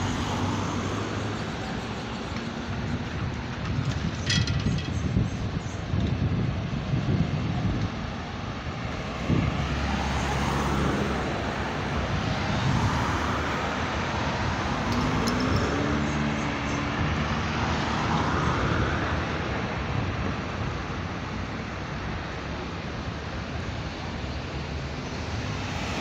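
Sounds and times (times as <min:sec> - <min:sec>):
cars driving past: 0:00.0 - 0:05.2, 0:08.4 - 0:26.0.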